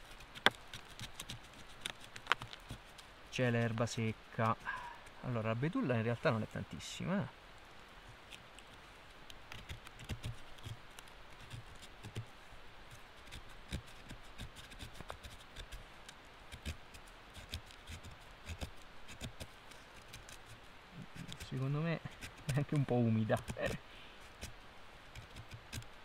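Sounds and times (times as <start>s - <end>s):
knife shaving wood: 0.0s - 5.2s, 8.2s - 25.9s.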